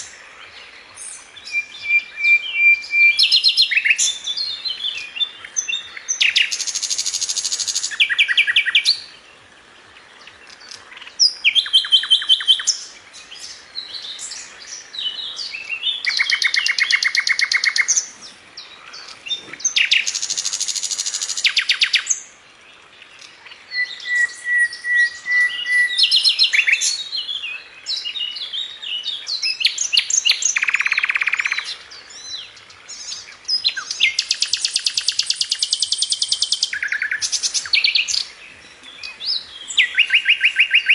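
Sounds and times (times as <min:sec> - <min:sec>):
songbird trills and chirps: 0:00.0 - 0:40.9.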